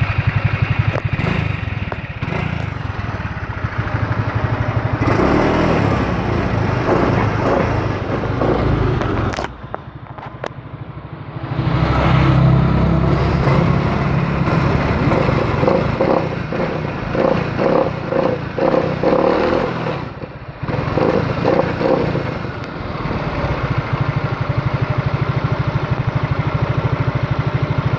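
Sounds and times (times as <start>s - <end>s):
engine running unevenly: 0.0s - 27.9s.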